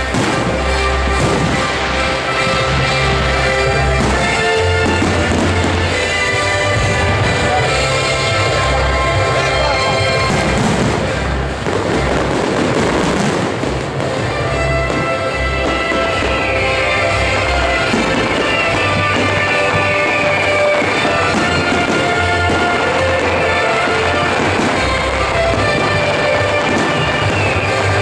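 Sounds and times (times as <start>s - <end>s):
fireworks cracking and popping: 0.0s - 28.0s
loud music: 0.0s - 28.0s.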